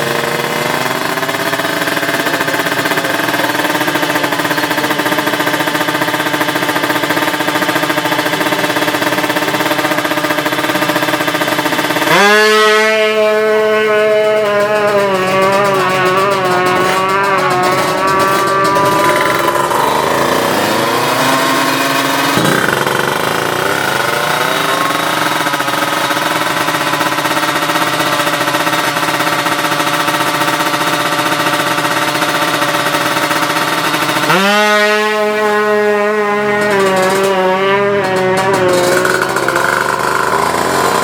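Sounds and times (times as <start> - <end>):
two-stroke engines revving high: 0.0 - 41.0.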